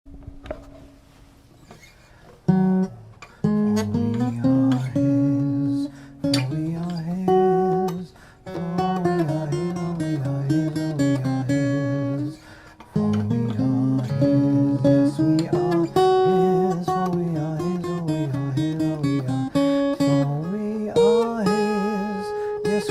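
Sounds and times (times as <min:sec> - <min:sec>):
acoustic guitar chords: 0:02.1 - 0:22.9.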